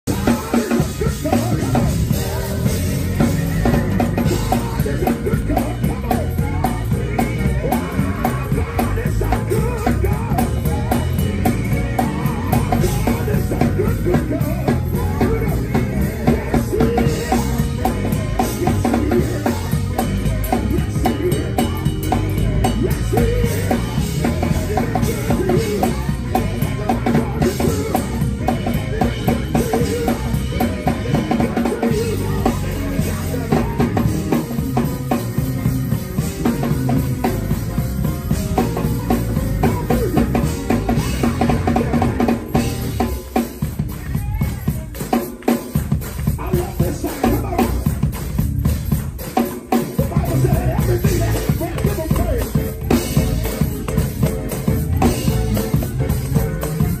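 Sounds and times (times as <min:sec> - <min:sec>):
acoustic drum kit: 0:00.0 - 0:57.0
live band music: 0:00.0 - 0:57.0
person singing: 0:00.0 - 0:57.0.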